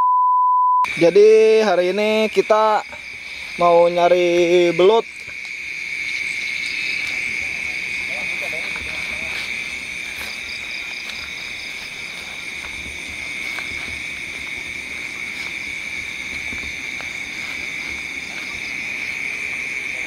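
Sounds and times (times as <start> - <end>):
insects and frogs trilling: 0.9 - 20.0.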